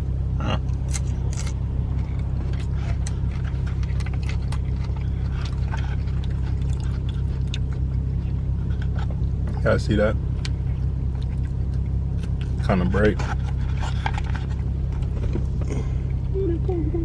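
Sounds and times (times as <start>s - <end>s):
low rumble inside a car: 0.0s - 17.0s.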